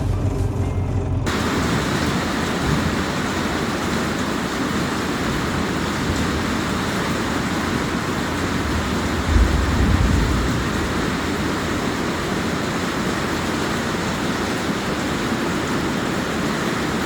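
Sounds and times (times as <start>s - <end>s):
hard rain pouring: 1.2s - 17.0s.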